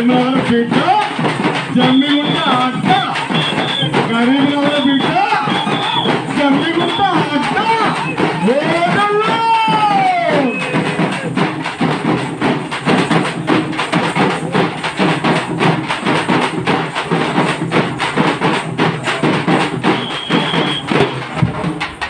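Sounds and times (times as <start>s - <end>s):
drums beaten in fast rhythm: 0.0s - 22.0s.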